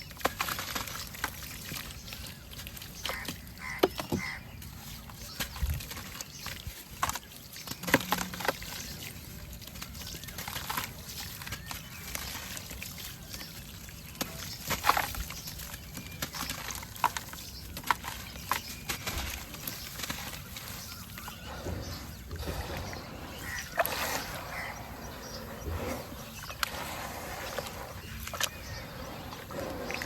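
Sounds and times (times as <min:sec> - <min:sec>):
small wet splashes: 0:00.0 - 0:30.0.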